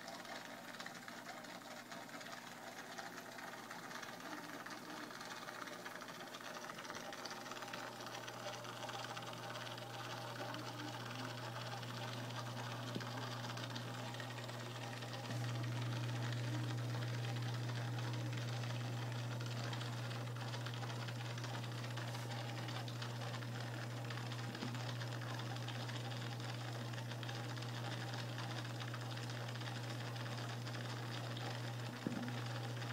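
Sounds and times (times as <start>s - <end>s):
aquarium pump humming: 0.0s - 32.9s.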